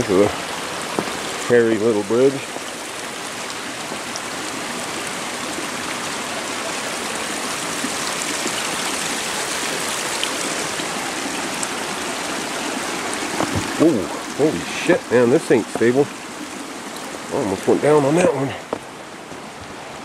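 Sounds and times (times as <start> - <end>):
creek rushing: 0.0 - 20.0.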